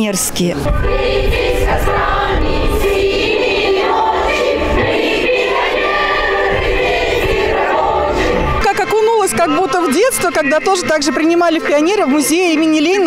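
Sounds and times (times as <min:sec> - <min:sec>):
group of voices singing: 0:00.6 - 0:12.2.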